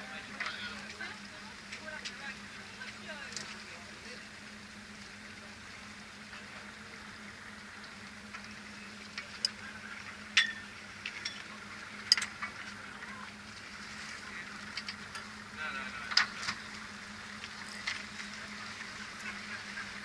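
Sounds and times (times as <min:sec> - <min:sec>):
boat engine hum: 0:00.0 - 0:20.0.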